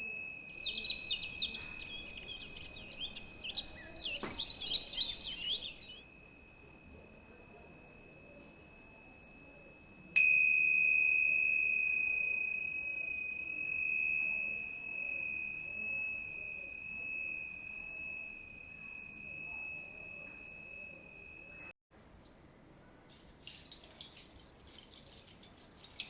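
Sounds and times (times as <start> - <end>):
high-pitched metal bell ringing: 0.0 - 21.7.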